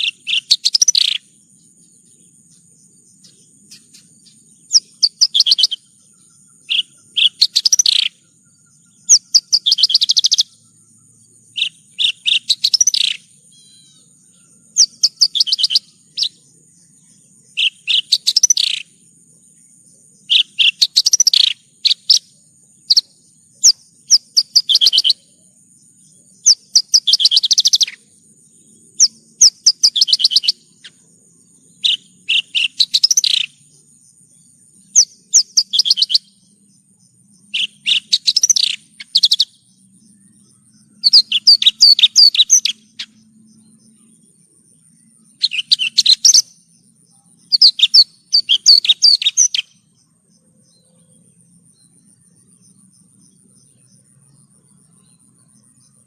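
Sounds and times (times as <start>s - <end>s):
bush lark singing high chirps: 0.0s - 56.0s.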